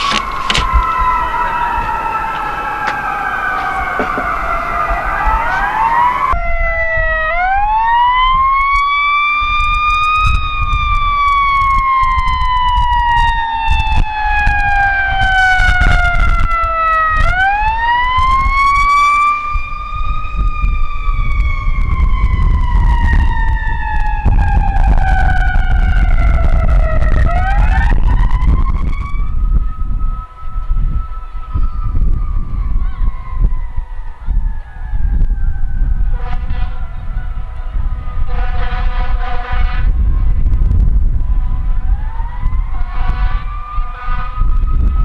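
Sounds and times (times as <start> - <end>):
fire truck sirens wailing: 0.0 - 45.0.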